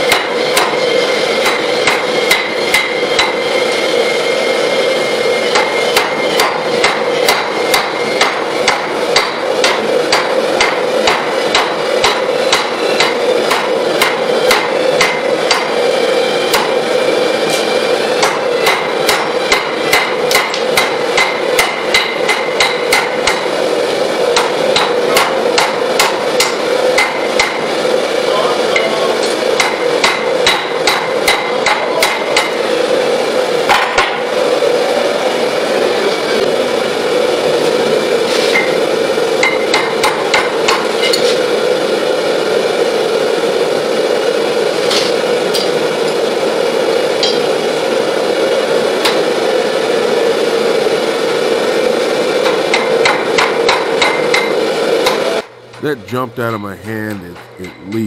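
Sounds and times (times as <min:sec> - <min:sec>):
gas forge burners rushing: 0:00.0 - 0:56.0.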